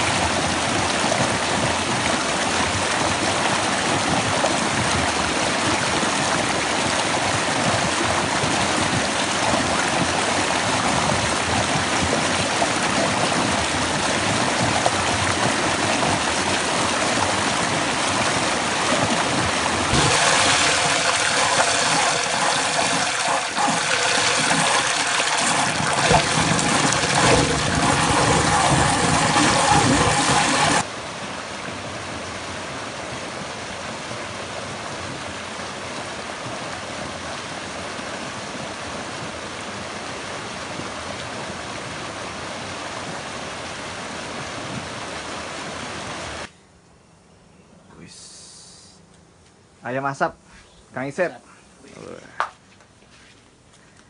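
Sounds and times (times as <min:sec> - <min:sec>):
mountain stream rushing over boulders: 0:00.0 - 0:46.5.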